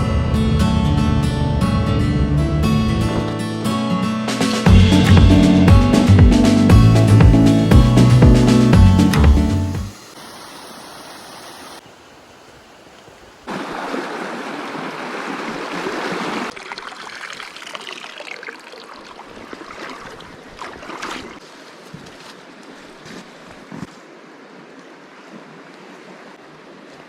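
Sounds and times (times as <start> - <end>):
stream water running: 4.5 - 27.0.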